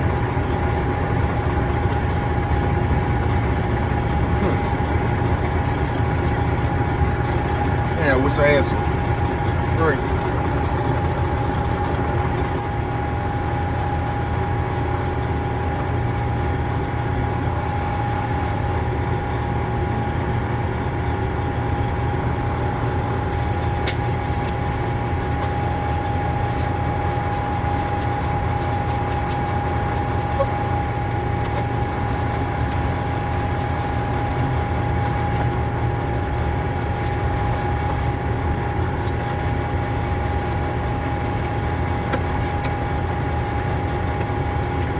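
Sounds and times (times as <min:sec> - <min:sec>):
large engine idling: 0:00.0 - 0:44.9.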